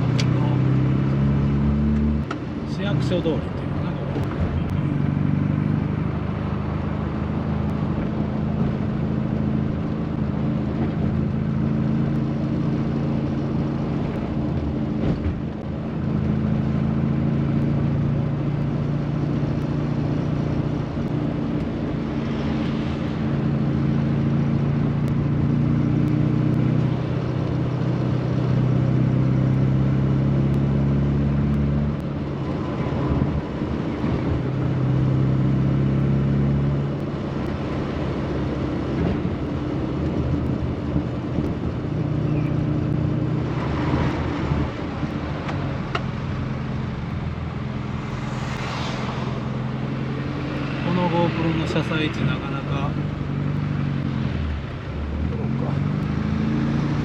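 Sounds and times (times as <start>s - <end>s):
car engine driving along: 0.0s - 57.0s.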